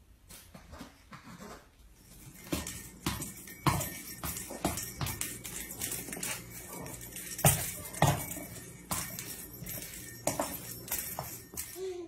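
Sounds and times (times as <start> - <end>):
hard objects knocking and clinking: 2.1 - 12.0.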